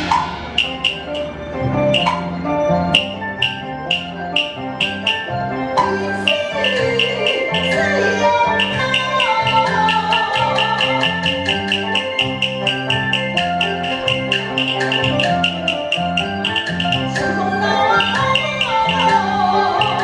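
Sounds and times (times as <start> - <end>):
fast clicking beat: 0.0 - 2.3, 2.9 - 20.0
traditional ensemble melody: 0.0 - 20.0.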